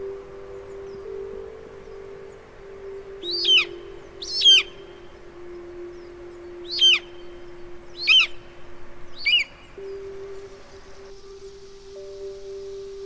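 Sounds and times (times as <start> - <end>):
bird calling: 0.0 - 13.0
steady low tone: 0.0 - 13.0.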